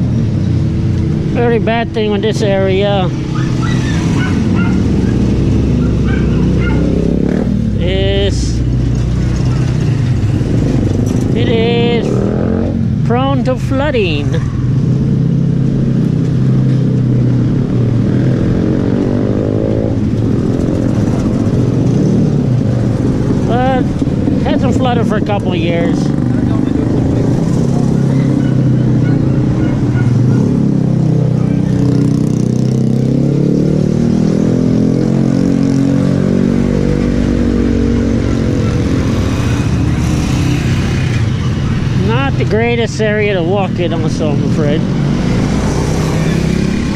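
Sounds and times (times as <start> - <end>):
road noise: 0.0 - 46.9
vehicle engine passing: 0.0 - 46.9.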